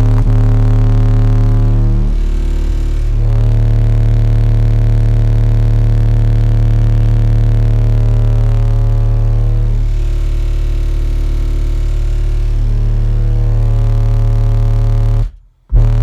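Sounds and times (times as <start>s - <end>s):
loud low bass tone from subwoofers: 0.0s - 16.0s.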